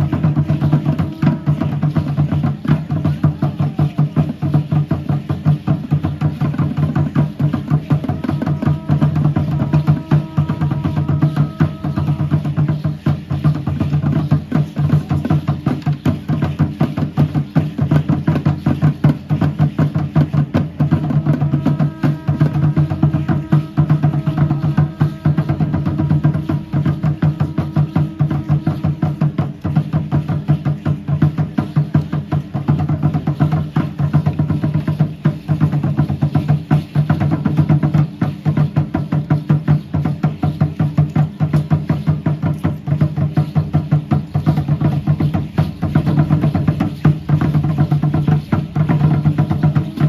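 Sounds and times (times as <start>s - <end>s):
wooden drums beating fast rhythm: 0.0s - 50.0s.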